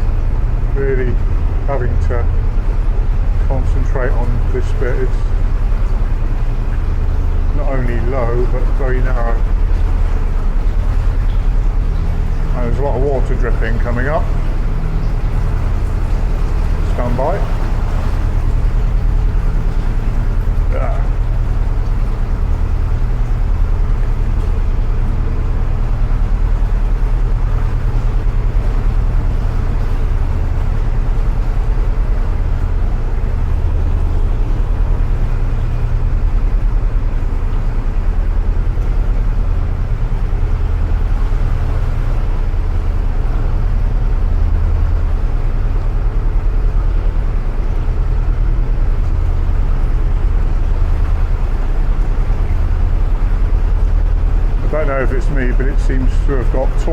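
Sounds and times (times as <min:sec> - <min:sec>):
diesel engine throbbing: 0:00.0 - 0:56.9.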